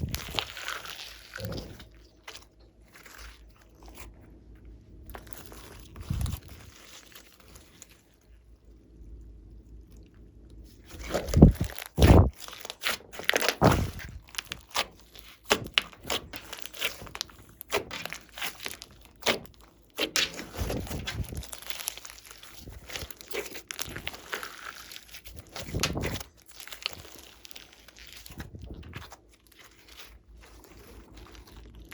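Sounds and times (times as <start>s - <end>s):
slime squelching and crackling: 0.0s - 8.9s, 9.7s - 31.9s.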